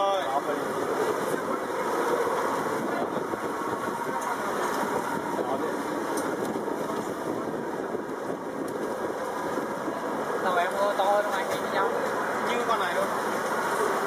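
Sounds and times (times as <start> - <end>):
boat engine idling: 0.0 - 14.0
faint voices: 0.0 - 14.0.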